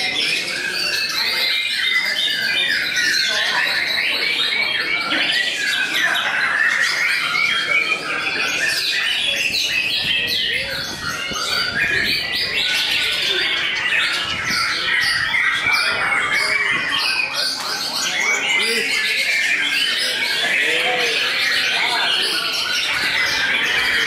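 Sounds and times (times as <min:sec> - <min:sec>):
birds singing whistled notes: 0:00.0 - 0:24.0.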